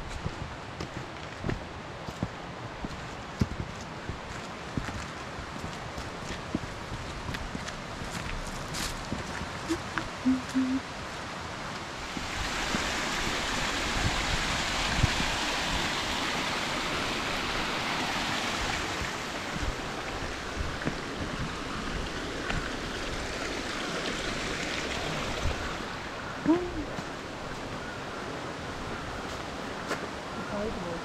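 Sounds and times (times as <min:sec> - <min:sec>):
mountain stream flowing: 0:00.0 - 0:31.0.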